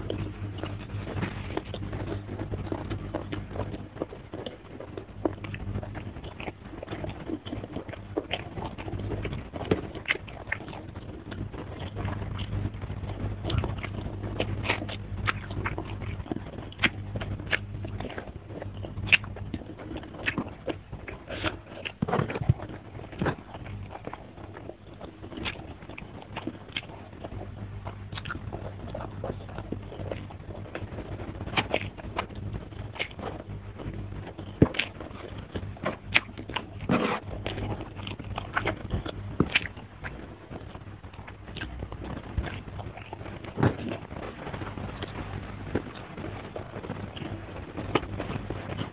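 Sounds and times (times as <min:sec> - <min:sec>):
low hum: 0:00.0 - 0:48.9
person chewing and lip smacking: 0:00.0 - 0:48.9.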